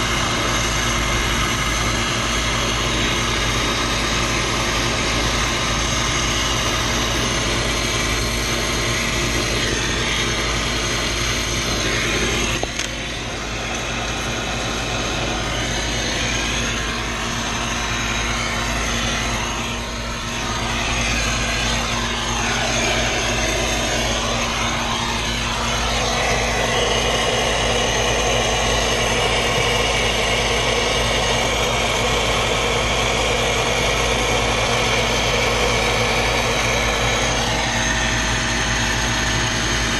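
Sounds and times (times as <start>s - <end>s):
machine motor humming: 0.0s - 39.9s.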